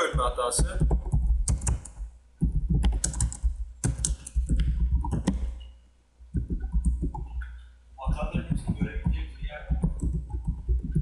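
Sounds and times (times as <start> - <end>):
typing on computer keyboard: 0.2 - 5.5, 6.4 - 7.4, 8.4 - 11.0.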